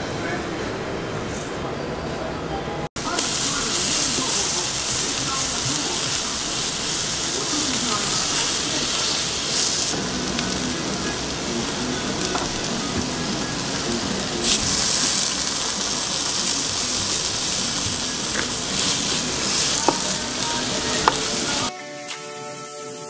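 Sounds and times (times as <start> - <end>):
steak sizzling on hot plate: 3.0 - 21.7.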